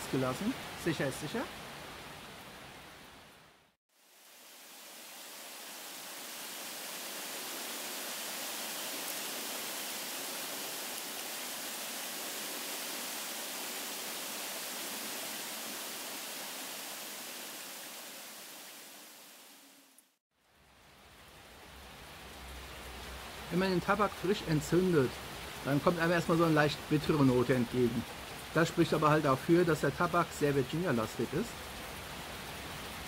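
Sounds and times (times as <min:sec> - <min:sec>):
heavy rain hiss: 0:00.0 - 0:33.0.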